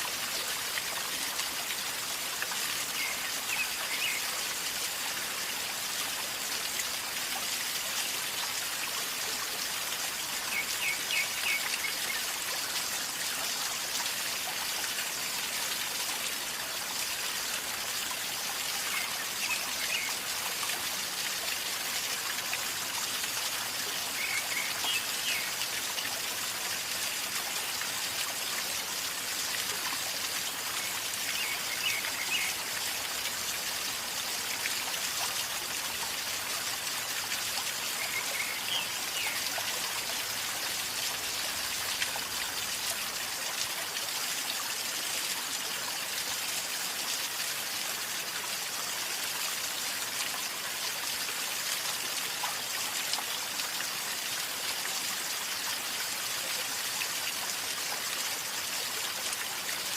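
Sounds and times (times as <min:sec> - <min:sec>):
river water gurgling: 0:00.0 - 0:08.3, 0:09.0 - 0:59.9.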